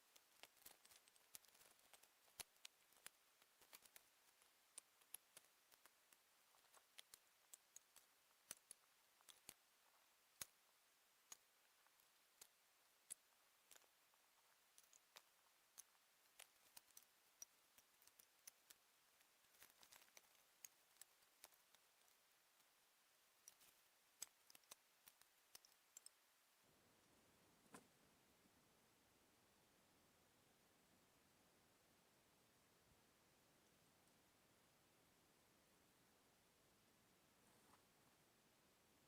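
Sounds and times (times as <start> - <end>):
faint sharp clicks and ticks: 0.0 - 38.2.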